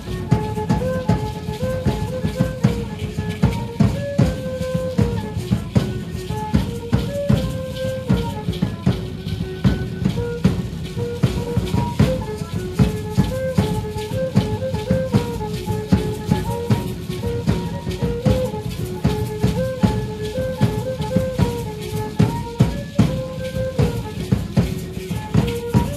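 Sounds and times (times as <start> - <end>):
drum beating: 0.0 - 25.9
hand rattles shaking: 0.0 - 25.9.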